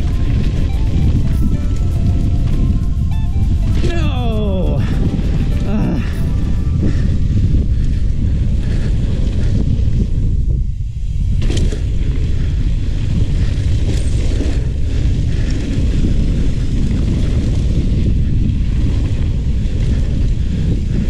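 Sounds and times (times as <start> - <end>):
wind buffeting a camera: 0.0 - 21.0.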